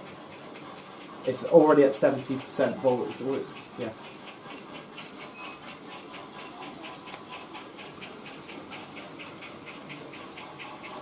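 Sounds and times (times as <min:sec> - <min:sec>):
model locomotive rapid chuff: 0:00.0 - 0:11.0
soft steam hiss: 0:00.0 - 0:11.0.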